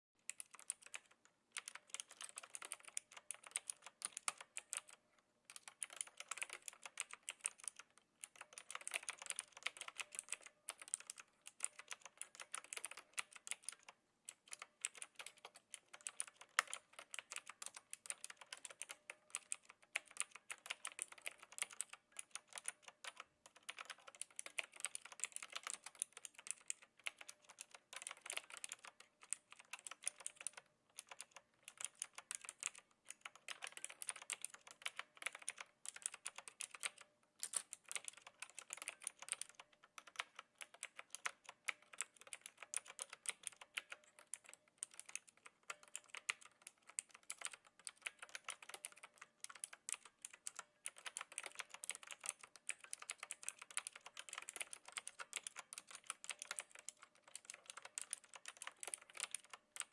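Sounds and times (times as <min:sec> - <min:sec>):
mechanical keyboard key clicks: 0:00.3 - 0:59.9.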